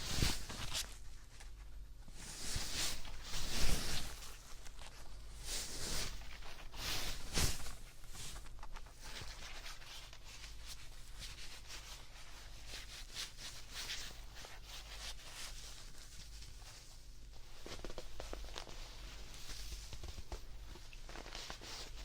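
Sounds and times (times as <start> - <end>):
soft rustling and scratching: 0.0 - 22.0.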